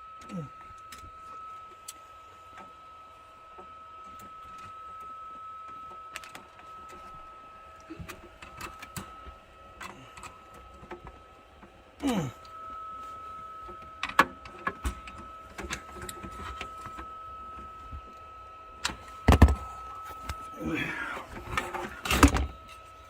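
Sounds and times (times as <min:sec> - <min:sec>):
steady high-pitched whine: 0:00.0 - 0:23.0.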